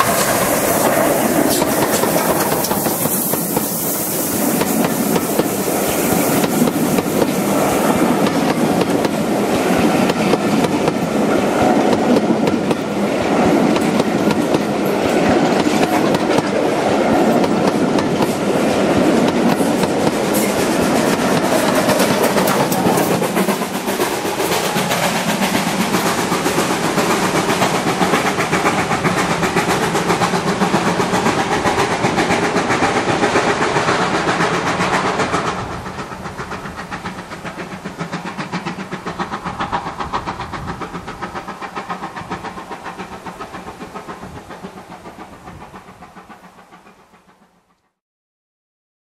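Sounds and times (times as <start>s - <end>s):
train wheels clattering over rails: 0.0s - 47.9s.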